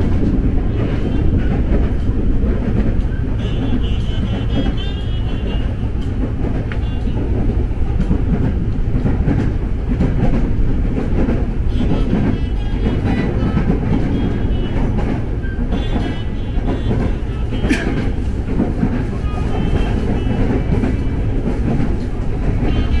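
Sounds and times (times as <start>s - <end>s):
electric train rumbling on rails: 0.0s - 23.0s.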